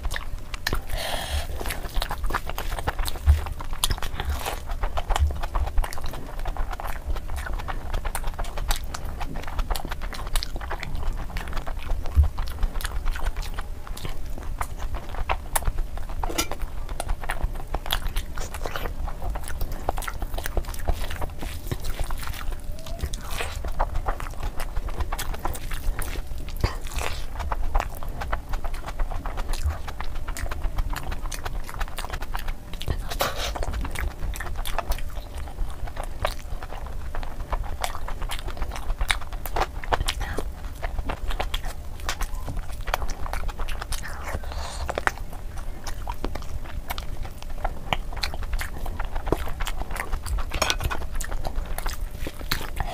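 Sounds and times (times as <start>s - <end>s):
wet chewing mouth clicks: 0.0s - 52.9s.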